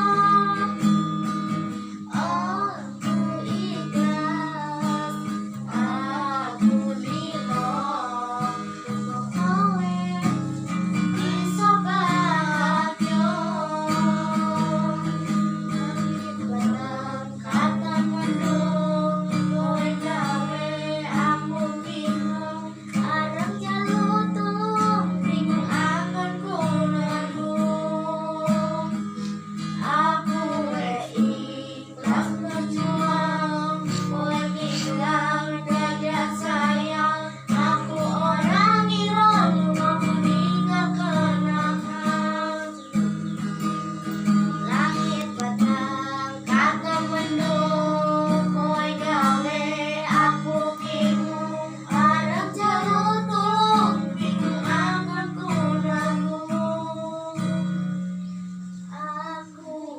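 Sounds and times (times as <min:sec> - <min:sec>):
woman singing: 0:00.0 - 0:58.2, 0:58.9 - 0:59.9
guitar: 0:00.0 - 0:59.9.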